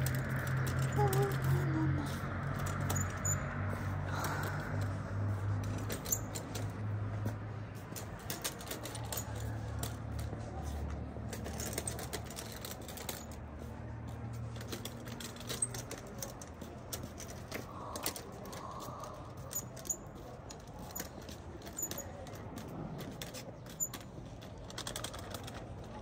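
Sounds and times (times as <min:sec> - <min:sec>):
small irregular clicks: 0:00.0 - 0:26.0.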